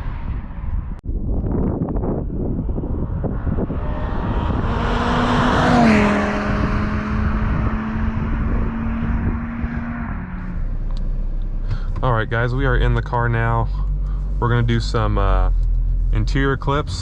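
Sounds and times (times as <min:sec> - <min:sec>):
car exhaust driving past: 0:00.0 - 0:17.0.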